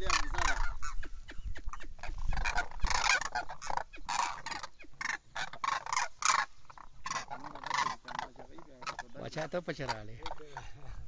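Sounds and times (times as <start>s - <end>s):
cranes calling: 0.0s - 11.0s.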